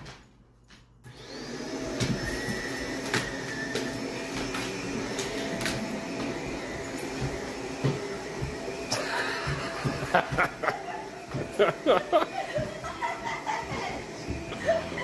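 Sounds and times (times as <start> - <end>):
dog pawing at vacuum: 1.1 - 15.0
upright vacuum cleaner running: 1.1 - 15.0.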